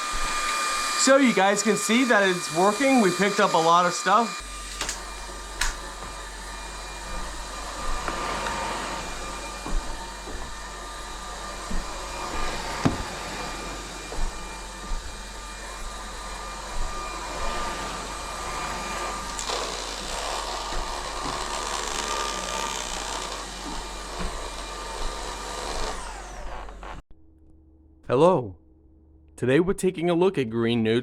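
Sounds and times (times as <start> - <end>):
stick vacuum whining: 0.0 - 27.0.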